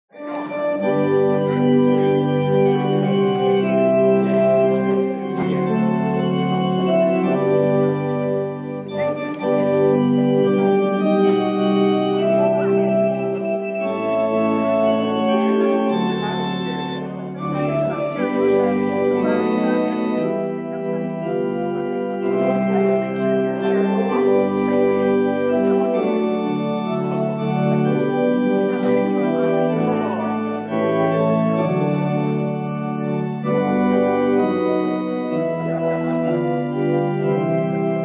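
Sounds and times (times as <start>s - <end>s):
organ playing held chords: 0.1s - 38.0s.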